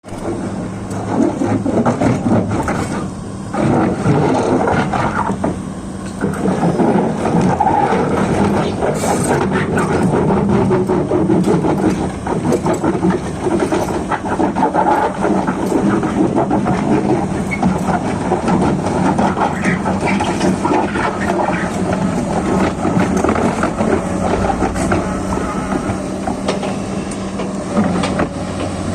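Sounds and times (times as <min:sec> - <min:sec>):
excavator diesel engine running: 0:00.1 - 0:28.9
steel tracks clanking: 0:00.1 - 0:28.9.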